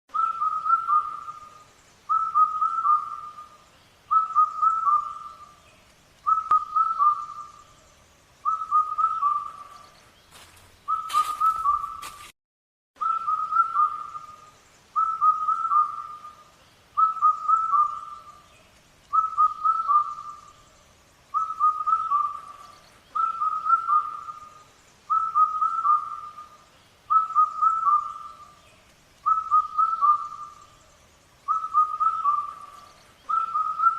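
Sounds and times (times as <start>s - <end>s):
bird whistling call: 0.1s - 5.6s, 6.2s - 7.8s, 8.4s - 12.3s, 13.0s - 18.5s, 19.1s - 20.6s, 21.3s - 30.8s, 31.4s - 33.9s.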